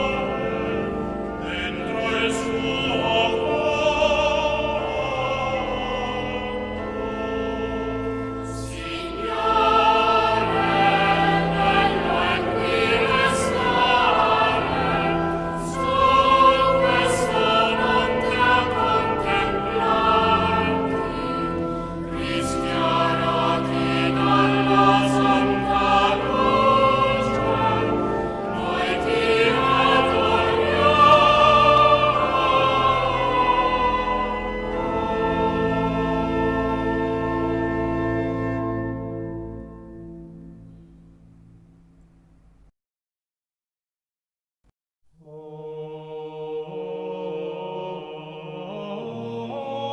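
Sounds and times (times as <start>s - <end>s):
choir singing with orchestra: 0.0s - 40.8s, 45.2s - 49.9s.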